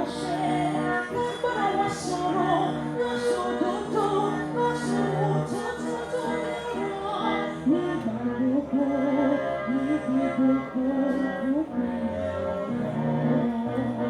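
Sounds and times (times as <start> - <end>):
instrumental accompaniment: 0.0 - 14.0
woman singing: 0.0 - 14.0.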